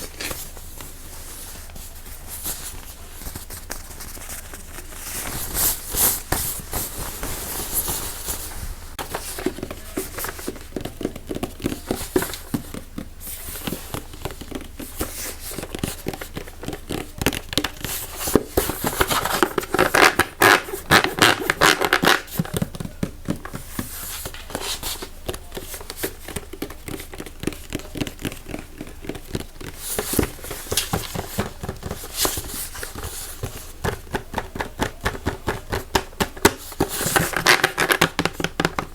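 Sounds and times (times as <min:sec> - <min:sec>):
rapid tapping on objects: 0:00.0 - 0:38.9
scratching on objects: 0:00.0 - 0:38.9.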